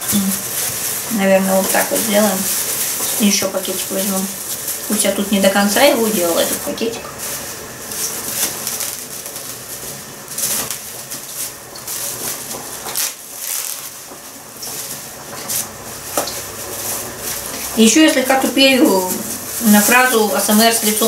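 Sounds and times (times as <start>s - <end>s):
plastic bag rustling: 0.0s - 21.0s.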